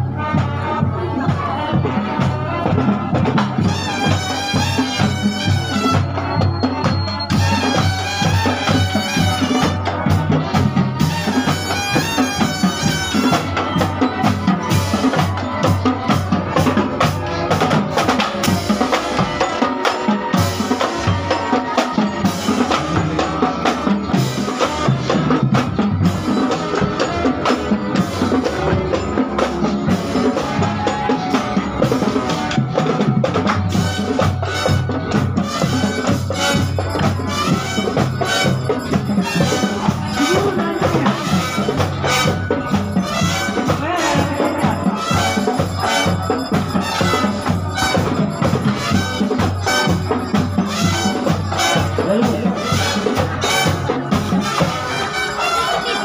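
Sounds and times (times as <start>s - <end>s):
bass drum beat: 0.0s - 55.1s
high melodic line: 0.0s - 56.0s.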